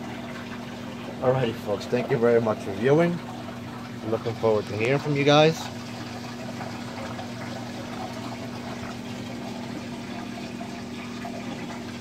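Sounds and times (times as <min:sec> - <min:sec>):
aquarium pump humming: 0:00.0 - 0:12.0
hiss of circulating water: 0:00.0 - 0:12.0.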